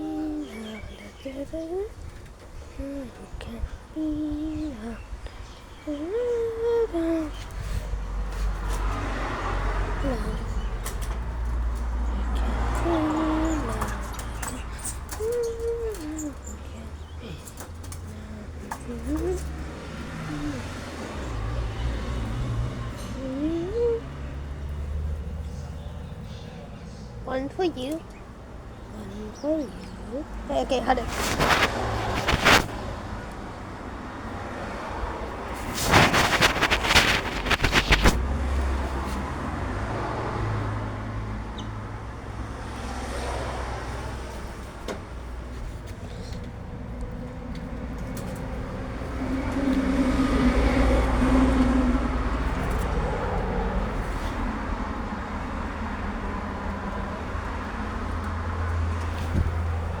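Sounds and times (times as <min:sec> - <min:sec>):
vehicle engine droning: 0:00.0 - 1:00.0.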